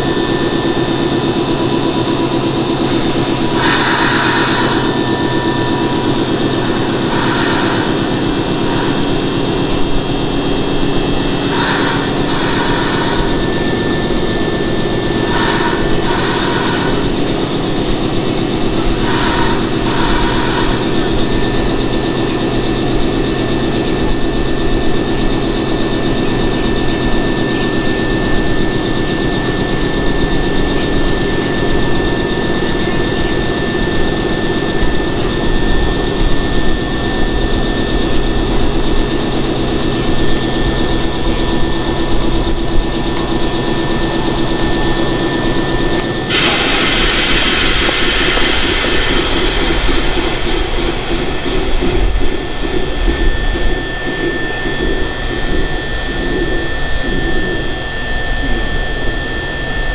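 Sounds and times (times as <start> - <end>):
air compressor running: 0.0 - 59.9
steady high whine: 0.0 - 59.9.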